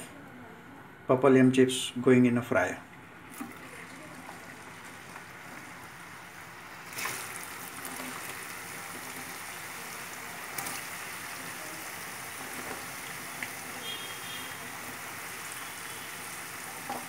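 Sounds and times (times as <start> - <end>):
fries sizzling in hot oil: 3.2 - 17.0.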